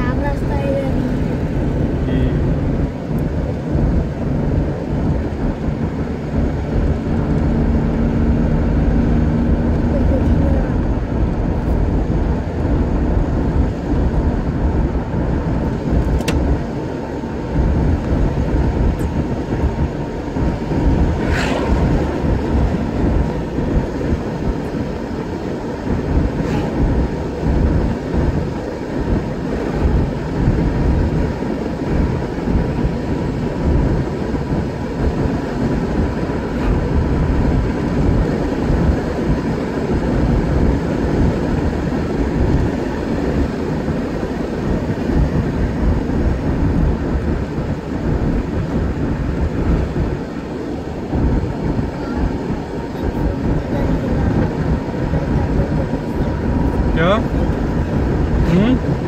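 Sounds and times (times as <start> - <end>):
car road noise inside cabin: 0.0 - 59.0.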